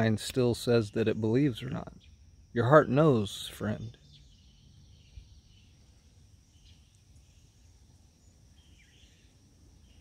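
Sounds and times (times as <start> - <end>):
high insect drone: 0.0 - 10.0
soft bird chirps: 0.0 - 10.0.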